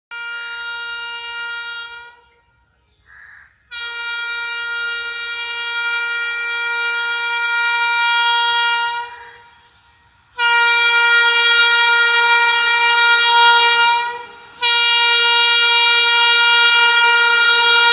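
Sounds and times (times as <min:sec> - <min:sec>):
locomotive horn blasts: 0:00.1 - 0:02.8, 0:03.7 - 0:17.9.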